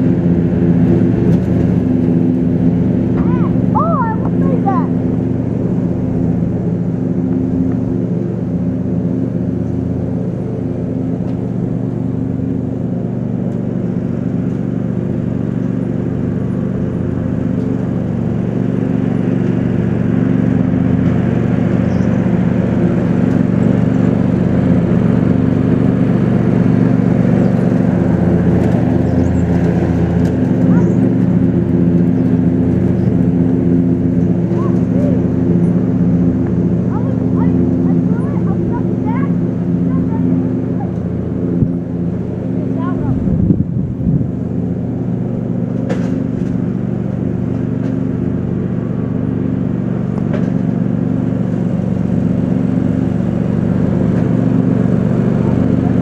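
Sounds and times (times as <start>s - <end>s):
motor drone: 0.0s - 56.0s.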